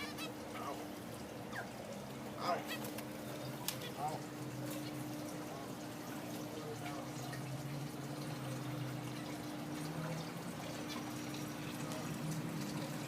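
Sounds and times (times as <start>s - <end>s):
low steady hum: 0.0s - 13.0s
water trickling: 0.0s - 13.0s.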